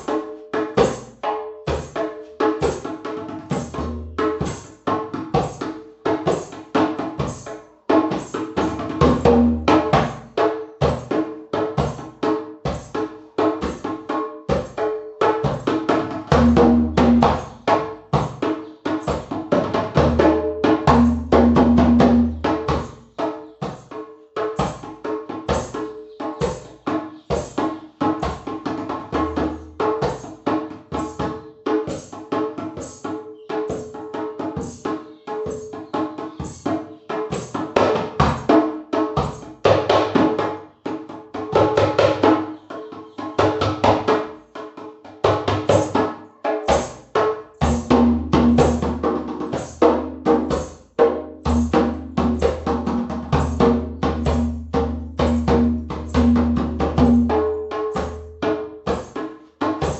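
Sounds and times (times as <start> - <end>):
fast busy percussion: 0.0 - 59.9.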